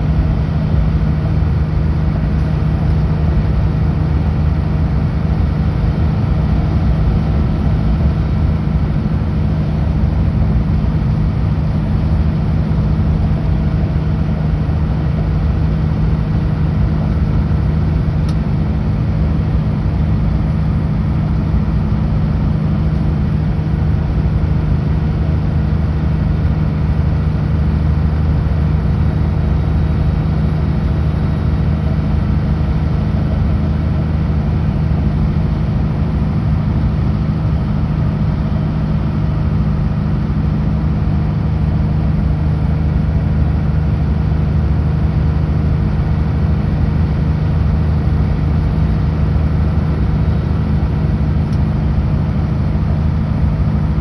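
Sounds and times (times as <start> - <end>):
truck diesel engine cruising: 0.0 - 54.0.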